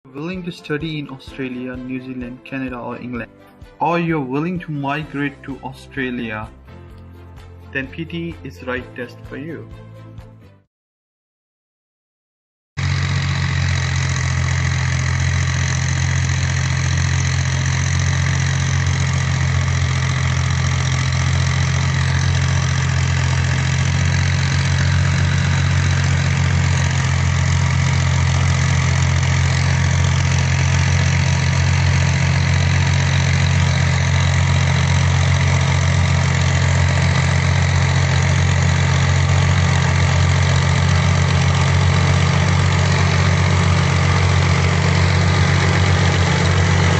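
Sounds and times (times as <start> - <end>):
tractor diesel engine running: 0.1 - 8.8, 12.8 - 46.9.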